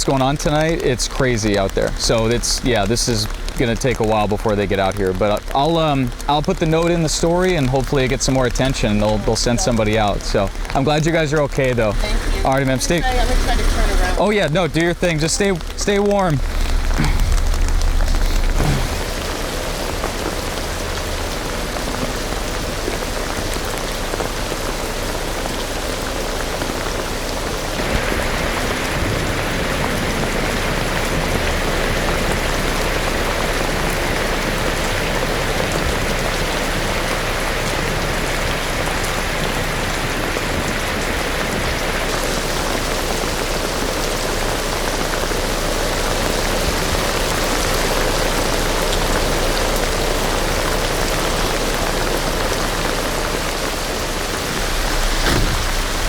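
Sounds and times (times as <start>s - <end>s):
rain splashing on surfaces: 0.0s - 56.0s.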